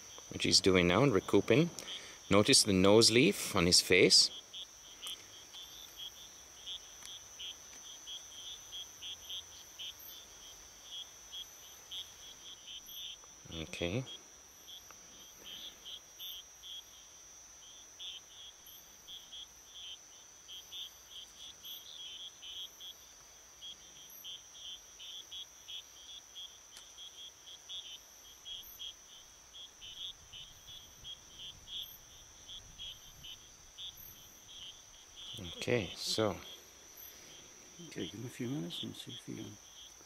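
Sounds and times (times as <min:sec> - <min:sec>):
insect chirps: 0:00.0 - 0:40.0
insect high-pitched trill: 0:00.0 - 0:40.0.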